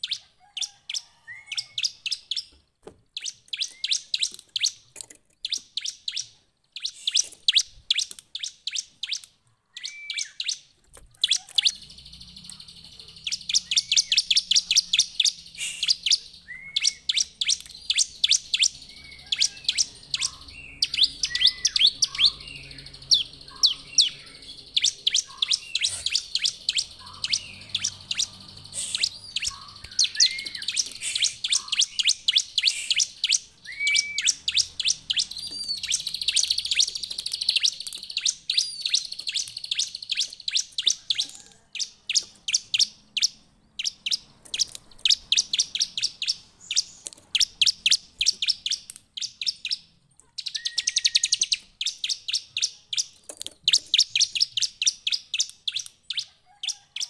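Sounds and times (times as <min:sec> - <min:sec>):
bird chirping and whistling: 0:00.0 - 0:02.5, 0:03.2 - 0:04.8, 0:05.4 - 0:49.8, 0:50.4 - 0:56.8.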